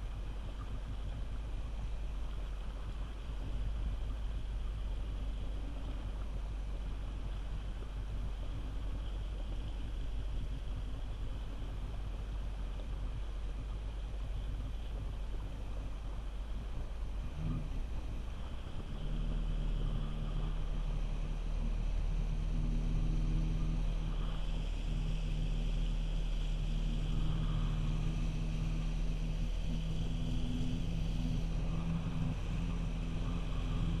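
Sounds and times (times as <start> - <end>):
jet ski engine running: 0.0 - 34.0.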